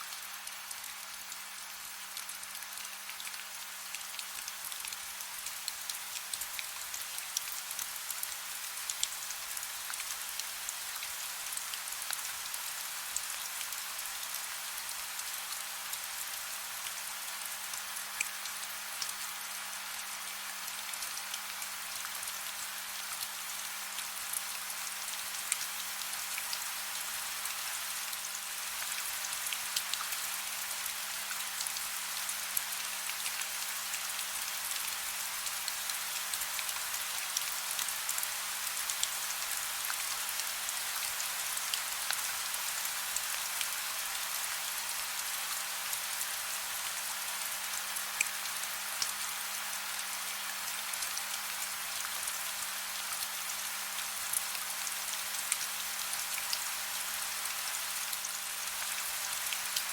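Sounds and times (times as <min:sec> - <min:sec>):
soft rain with droplet ticks: 0:00.0 - 0:59.9.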